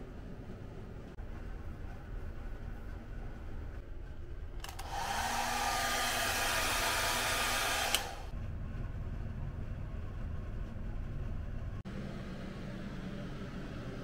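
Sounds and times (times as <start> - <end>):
dryer fan blowing air: 0.0 - 14.0.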